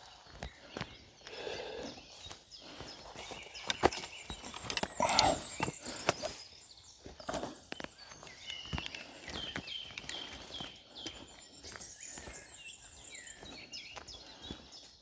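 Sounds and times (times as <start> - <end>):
footsteps crunching on trail: 0.0 - 15.0.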